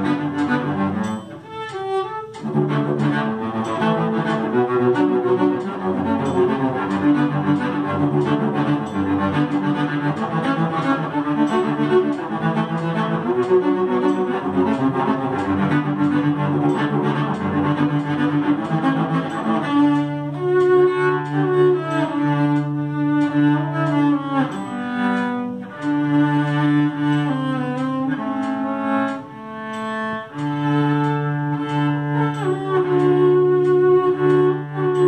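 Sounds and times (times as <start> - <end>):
cello bowed: 0.0 - 35.0.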